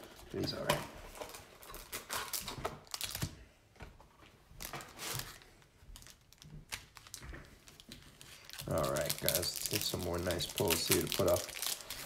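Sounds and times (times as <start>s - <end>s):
cards and wrapper rustling: 0.0s - 3.4s, 4.6s - 12.0s.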